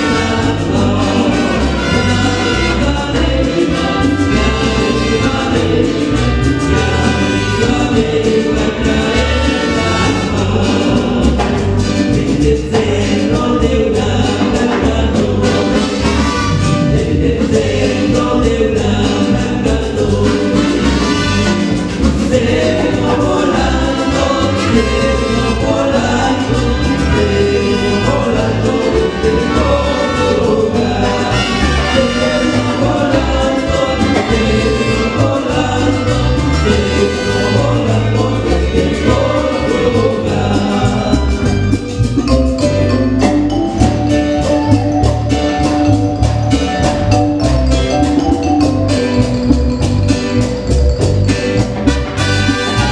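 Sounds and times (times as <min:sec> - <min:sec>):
person singing: 0:00.0 - 0:16.1, 0:16.8 - 0:21.5, 0:22.2 - 0:49.2
live band playing latin music: 0:00.0 - 0:52.9.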